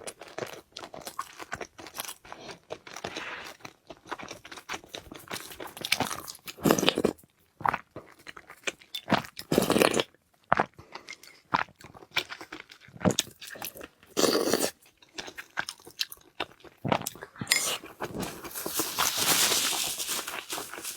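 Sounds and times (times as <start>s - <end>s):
person crunching food: 0.0s - 20.9s.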